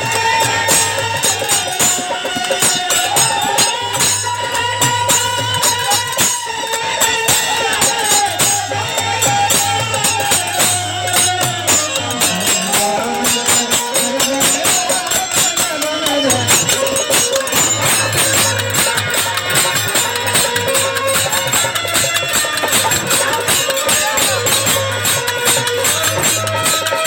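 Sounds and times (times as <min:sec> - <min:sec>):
fast tambourine-like percussion: 0:00.0 - 0:27.0.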